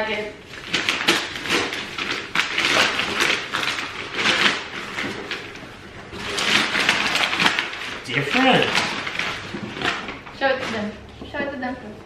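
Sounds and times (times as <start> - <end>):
wrapping paper tearing and crumpling: 0.4 - 11.1.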